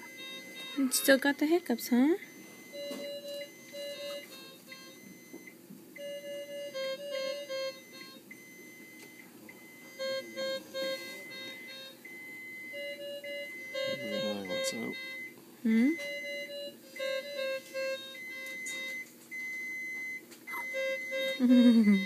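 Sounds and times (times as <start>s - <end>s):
electronic beeping tune: 0.0s - 5.4s, 6.0s - 22.0s.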